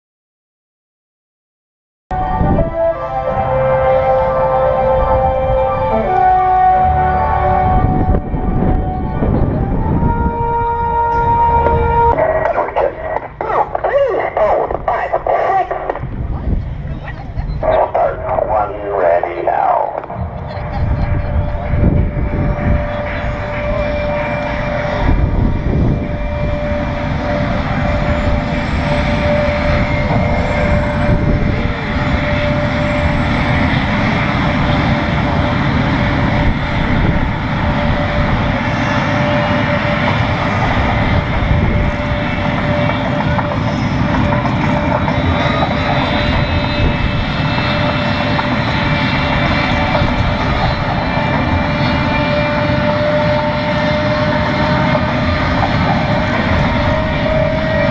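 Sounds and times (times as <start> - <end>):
jet engines whining: 2.1 - 57.9.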